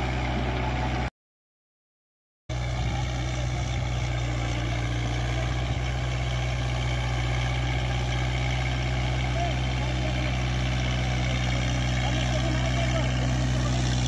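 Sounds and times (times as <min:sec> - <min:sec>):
tractor diesel engine humming: 0:00.0 - 0:01.1, 0:02.5 - 0:14.0.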